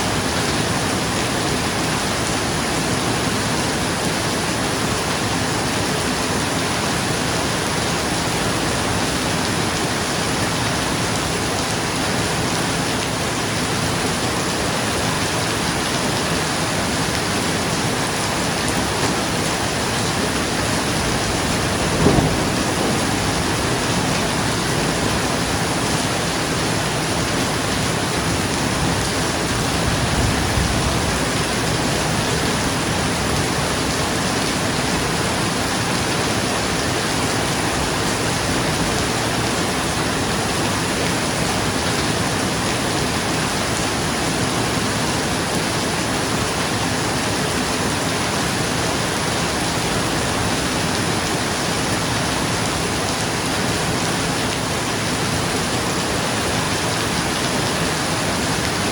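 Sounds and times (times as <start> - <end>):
rain on a roof: 0.0 - 58.9.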